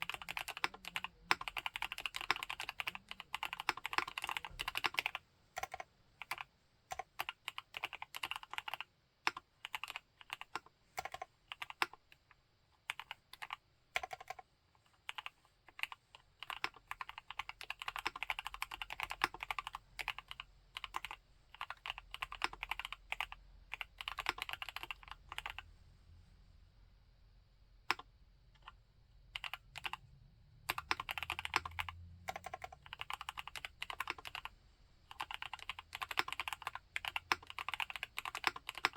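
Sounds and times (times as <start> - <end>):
mechanical keyboard typing: 0.0 - 12.2, 12.8 - 14.4, 15.0 - 25.7, 27.8 - 30.0, 30.6 - 34.5, 35.1 - 38.9.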